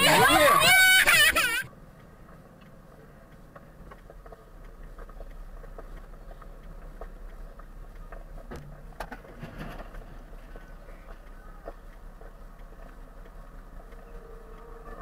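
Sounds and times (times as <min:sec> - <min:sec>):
vehicle driving rumble: 0:00.0 - 0:15.0
sharp ticks: 0:01.9 - 0:09.0, 0:10.0 - 0:15.0
faint clicks and rattles: 0:01.9 - 0:15.0.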